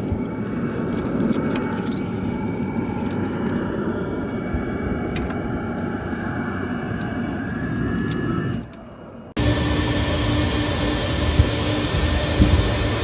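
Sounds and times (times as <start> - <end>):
machine noise with high whine: 0.0 - 13.0.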